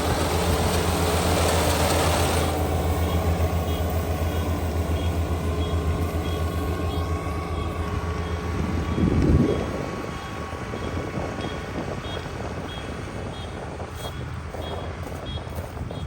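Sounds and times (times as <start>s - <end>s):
combine harvester engine humming: 0.0s - 16.0s.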